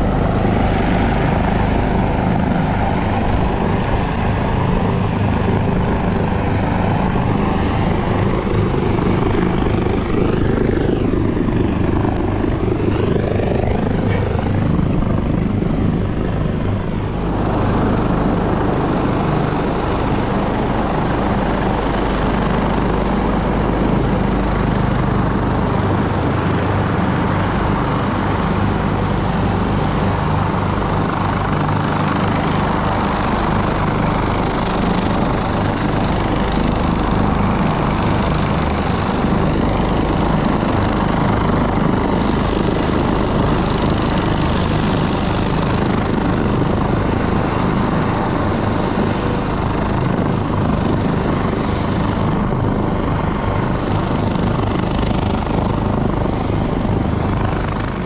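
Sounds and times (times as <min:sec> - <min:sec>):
helicopter rotor and turbine drone: 0:00.0 - 0:58.0.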